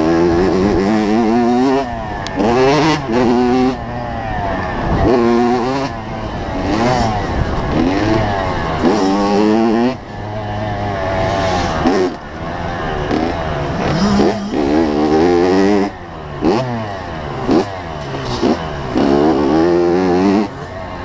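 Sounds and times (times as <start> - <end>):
two-stroke motorbike engine revving: 0.0 - 21.0.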